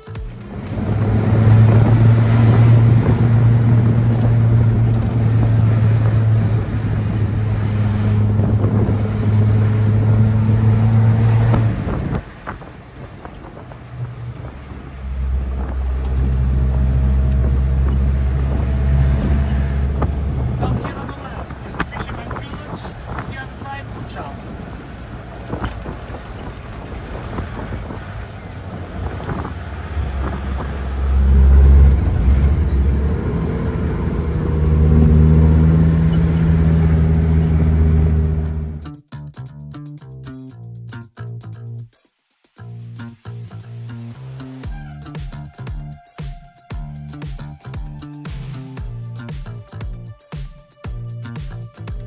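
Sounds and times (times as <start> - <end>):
vehicle engine humming: 0.0 - 39.1, 42.6 - 52.0.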